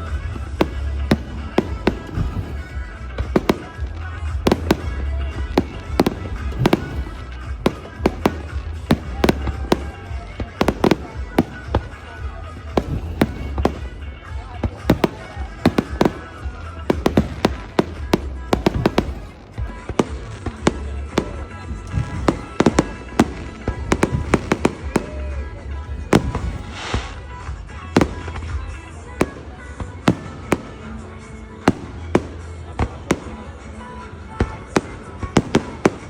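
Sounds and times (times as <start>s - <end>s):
fireworks bangs and cracks: 0.0s - 36.0s.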